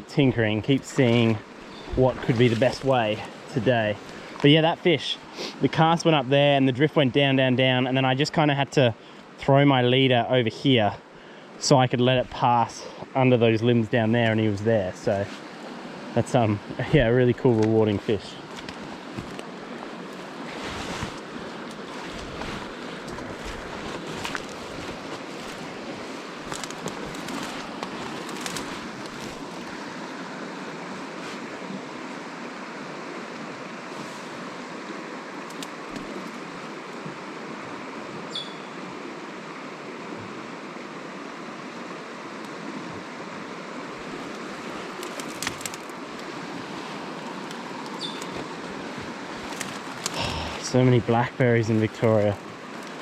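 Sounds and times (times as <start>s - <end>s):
river water rushing: 0.0s - 6.6s, 12.5s - 53.0s.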